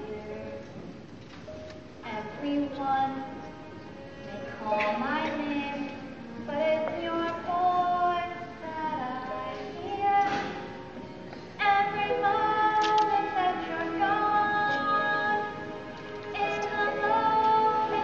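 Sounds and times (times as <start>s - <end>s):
musical accompaniment: 0.0s - 18.0s.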